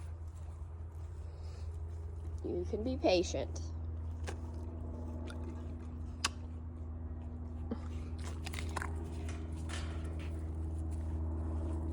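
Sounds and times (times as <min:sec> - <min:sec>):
dogs chewing and crunching food: 0:00.0 - 0:11.9
steady low hum: 0:00.0 - 0:11.9.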